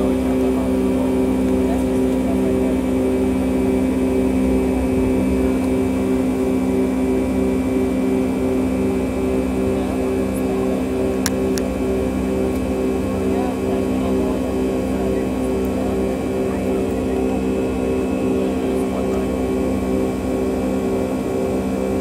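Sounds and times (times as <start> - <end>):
jet engines roaring in cabin: 0.0 - 22.0.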